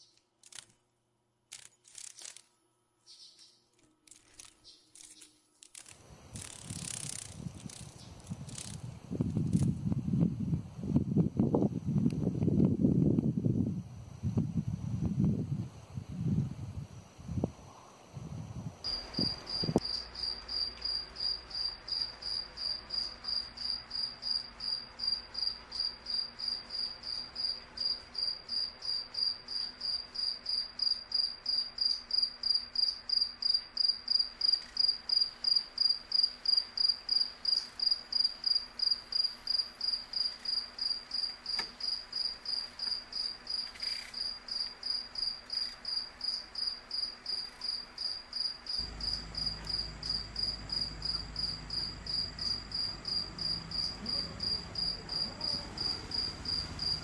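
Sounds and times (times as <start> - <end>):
cricket chirping: 5.8 - 57.0.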